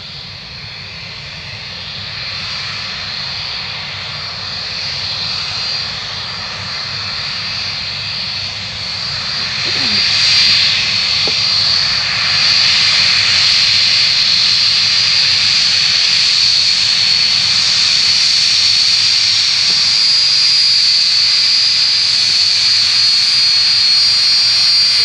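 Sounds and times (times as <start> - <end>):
jet engines whining and roaring: 0.0 - 25.0.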